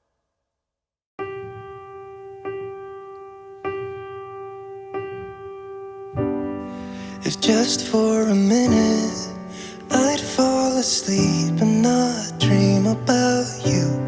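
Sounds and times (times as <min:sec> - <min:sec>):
electric piano chord: 0:01.2 - 0:14.0.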